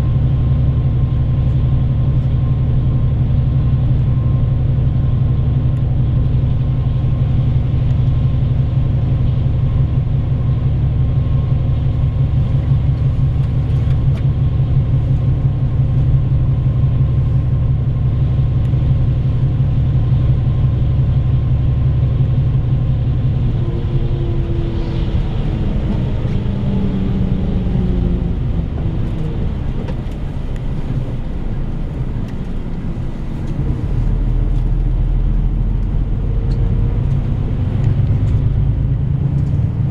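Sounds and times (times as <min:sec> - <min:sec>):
bus engine drone: 0:00.0 - 0:39.9
road noise: 0:04.7 - 0:39.9.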